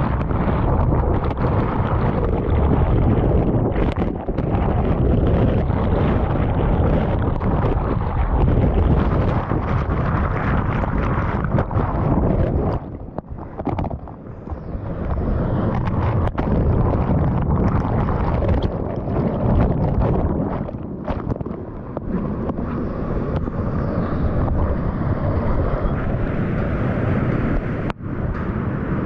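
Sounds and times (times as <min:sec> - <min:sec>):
whitewater rushing against a hull: 0:00.0 - 0:27.8
water buffeting the microphone: 0:00.0 - 0:29.0.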